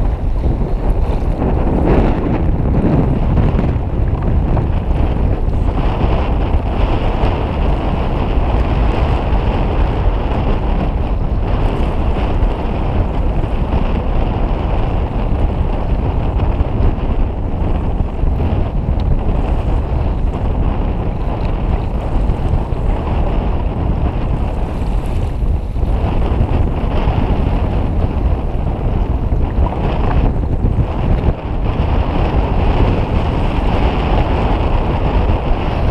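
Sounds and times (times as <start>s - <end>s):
sea water washing against kayak: 0.0s - 35.9s
wind buffeting microphone: 0.0s - 35.9s.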